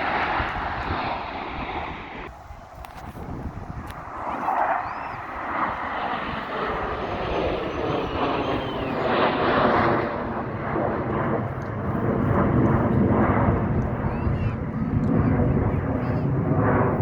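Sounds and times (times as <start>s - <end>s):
airplane engine flying past: 0.0s - 17.0s.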